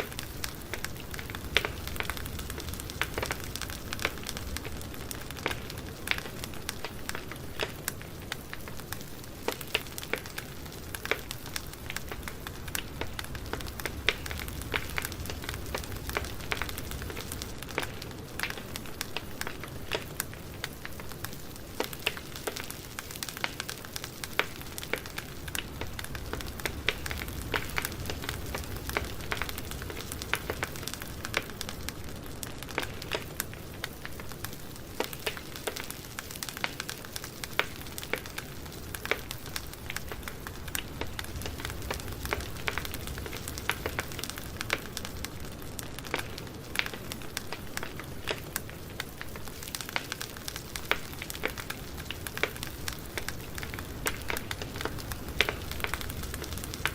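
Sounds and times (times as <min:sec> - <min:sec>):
campfire crackling and popping: 0:00.0 - 0:56.9
flames hissing and rumbling: 0:00.0 - 0:56.9.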